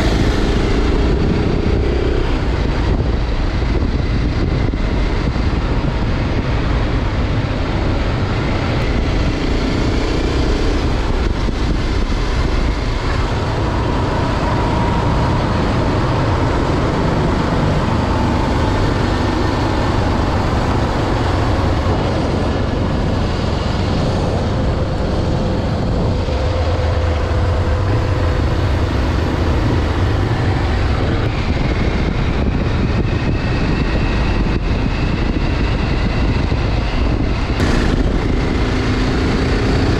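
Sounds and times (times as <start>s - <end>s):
motorcycle engine running: 0.0s - 39.9s
road noise: 0.0s - 39.9s
rushing wind: 0.0s - 39.9s.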